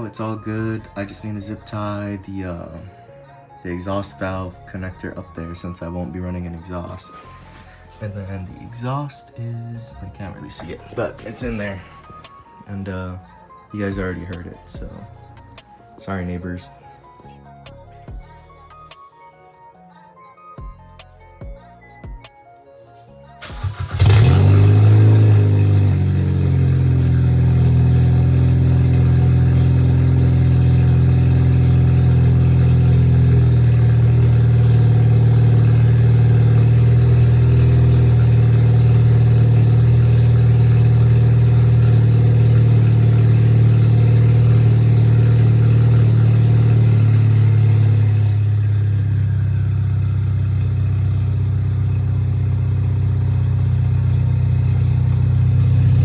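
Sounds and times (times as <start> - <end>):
car engine starting and idling: 0.0 - 19.0, 23.2 - 56.0.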